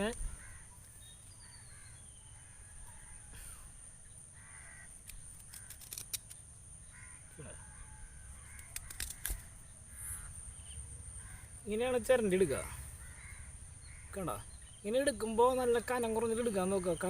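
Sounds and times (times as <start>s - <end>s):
crows cawing: 0.3s - 6.0s, 6.8s - 14.8s.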